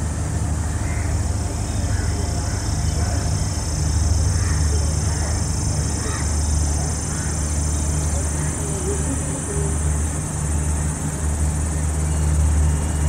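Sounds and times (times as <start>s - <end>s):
constant high hiss: 0.0s - 13.0s
diesel locomotive engine running: 0.0s - 13.0s.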